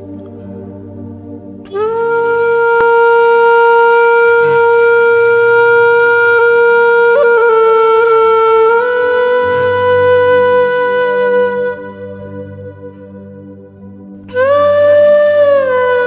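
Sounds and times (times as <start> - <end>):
soft low drone: 0.0 - 16.0
wind instrument long note: 0.0 - 16.0.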